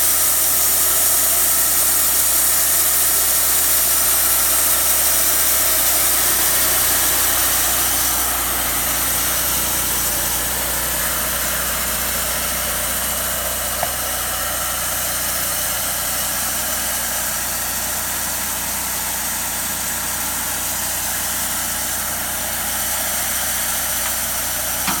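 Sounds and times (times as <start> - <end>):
sawmill saw droning: 0.0 - 25.0.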